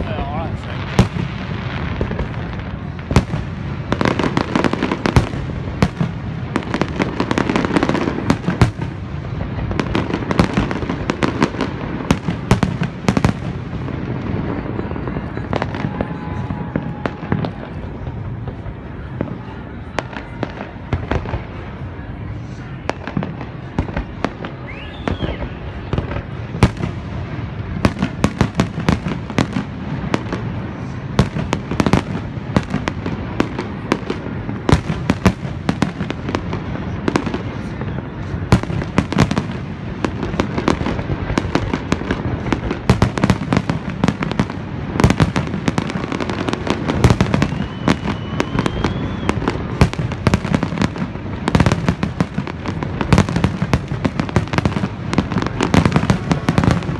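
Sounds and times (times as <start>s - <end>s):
fireworks cracks and bangs: 0.0s - 56.9s.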